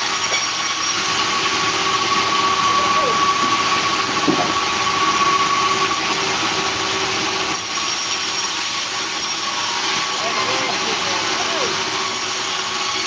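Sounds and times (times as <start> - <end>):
machine whine: 0.0 - 13.0
sawmill engine drone: 0.0 - 13.0.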